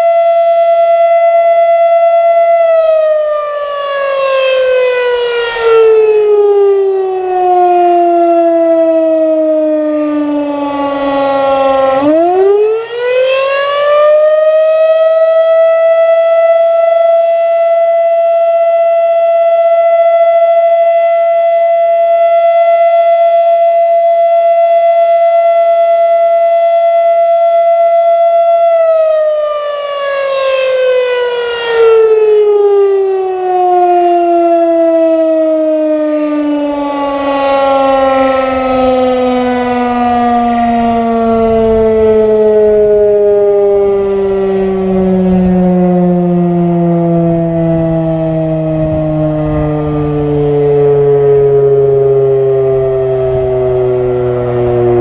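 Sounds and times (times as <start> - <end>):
fire siren wailing: 0.0 - 55.0.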